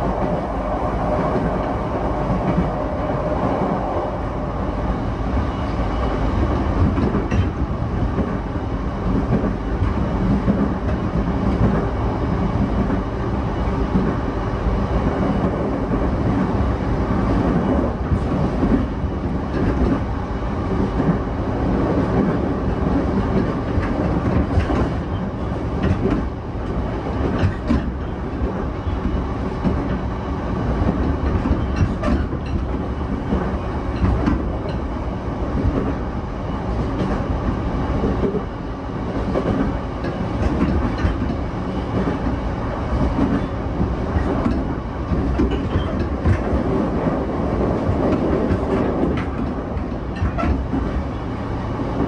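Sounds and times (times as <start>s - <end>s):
rumble of wheels on rail: 0.0s - 52.0s.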